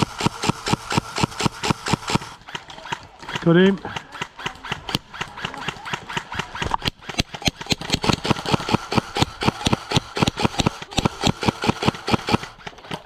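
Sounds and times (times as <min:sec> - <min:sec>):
airsoft guns firing: 0:00.0 - 0:13.0.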